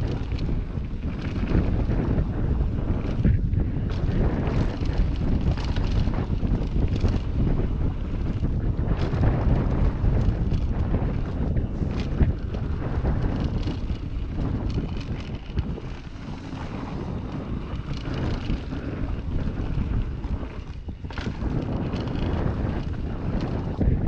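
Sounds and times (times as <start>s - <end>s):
bike clicks and knocks: 0.0s - 23.9s
tyres rumbling on dirt trail: 0.0s - 24.0s
wind buffeting microphone: 0.0s - 24.0s.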